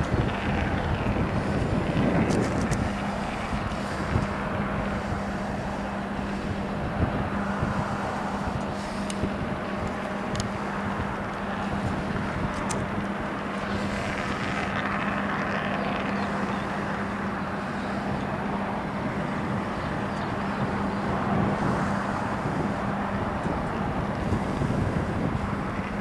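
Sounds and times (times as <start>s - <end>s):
diesel locomotive running: 0.0s - 26.0s
outdoor rush: 0.0s - 26.0s.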